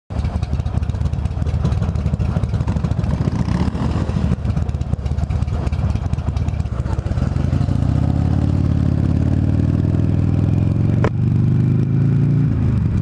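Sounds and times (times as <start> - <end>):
motorcycle engine throbbing: 0.1 - 13.0.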